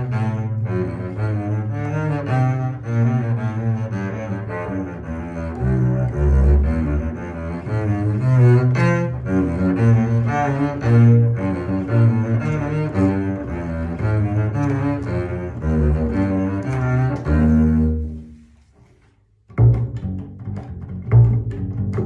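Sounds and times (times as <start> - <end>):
bowed double bass: 0.0 - 22.0.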